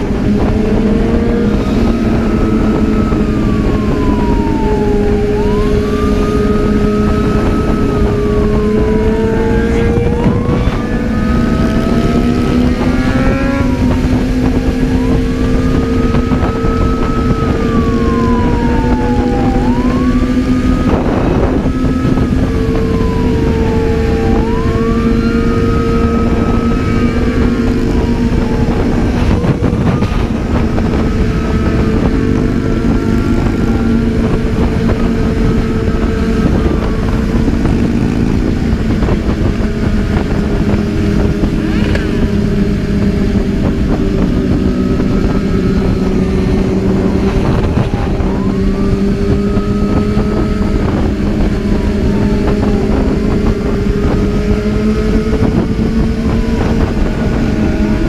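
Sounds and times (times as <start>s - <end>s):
motorcycle engine running: 0.0s - 58.0s
police siren wailing: 0.0s - 58.0s
rushing wind: 0.0s - 58.0s.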